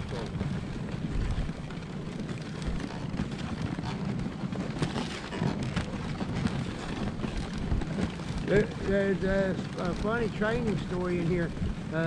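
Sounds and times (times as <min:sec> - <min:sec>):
sled runners hissing over snow: 0:00.0 - 0:12.0
wind on microphone: 0:00.0 - 0:12.0.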